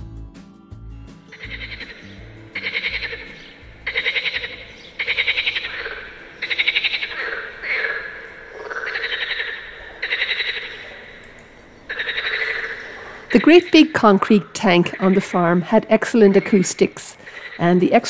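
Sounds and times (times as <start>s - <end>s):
frogs croaking with echo: 1.3s - 18.0s.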